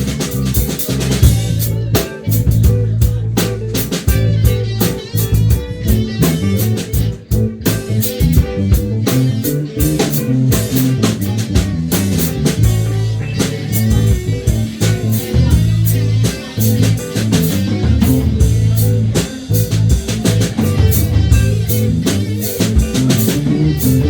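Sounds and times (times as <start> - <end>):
bass line: 0.0 - 24.0
drum kit steady beat: 0.0 - 24.0
electric guitar: 0.0 - 24.0.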